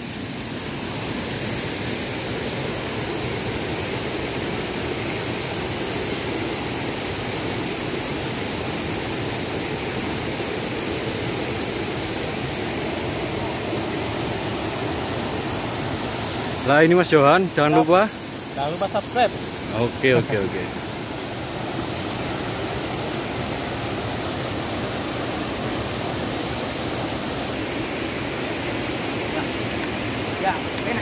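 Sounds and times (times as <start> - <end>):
stream rushing over rapids: 0.0 - 31.0.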